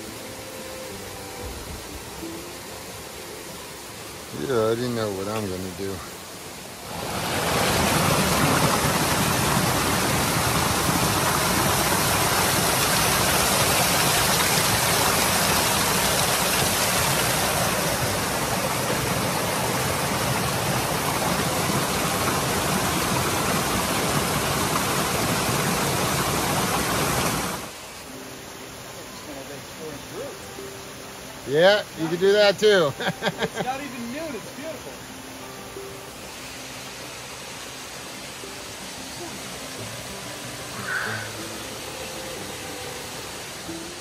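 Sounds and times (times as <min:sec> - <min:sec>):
waterfall rushing close up: 0:00.0 - 0:44.0.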